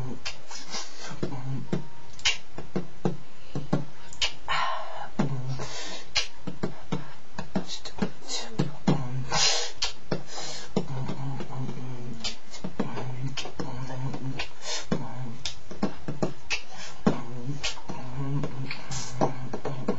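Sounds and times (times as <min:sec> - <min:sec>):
beatboxing: 0:00.0 - 0:19.9.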